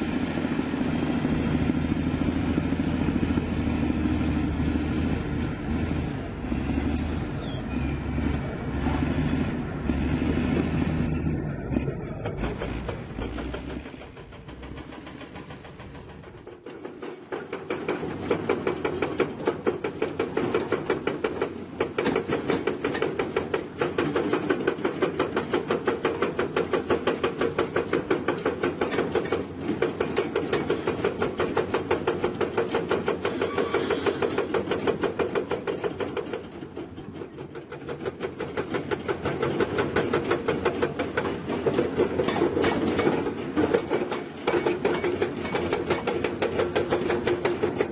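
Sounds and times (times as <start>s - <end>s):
excavator diesel engine: 0.0s - 47.9s.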